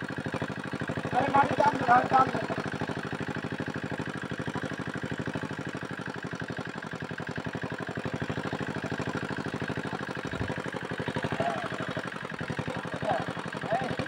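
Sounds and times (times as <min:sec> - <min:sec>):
small engine idling: 0:00.0 - 0:14.0.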